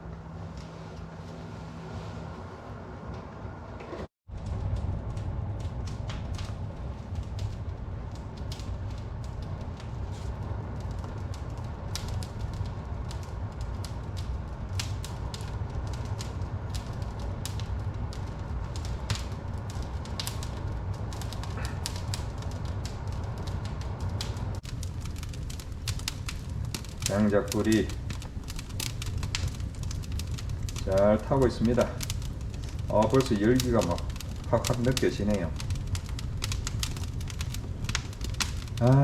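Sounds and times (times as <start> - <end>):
low fire rumble: 0.0 - 39.0
firewood crackling and popping: 4.3 - 39.0.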